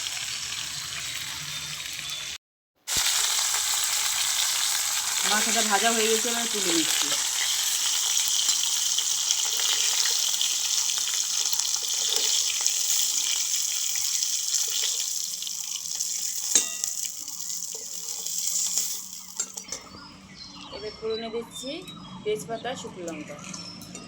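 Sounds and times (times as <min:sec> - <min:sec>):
oil sizzling in a pan: 0:00.0 - 0:19.8.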